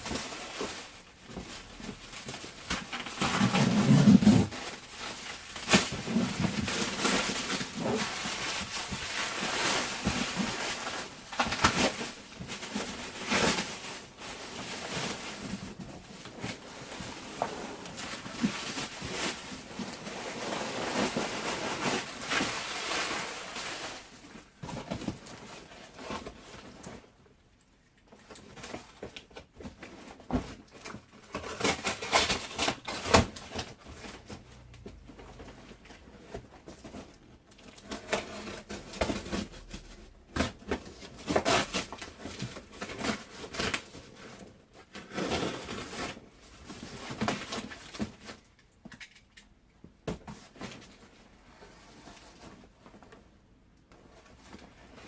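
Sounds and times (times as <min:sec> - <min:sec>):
packaging rustling and crinkling: 0:00.0 - 0:27.4, 0:28.0 - 0:55.0.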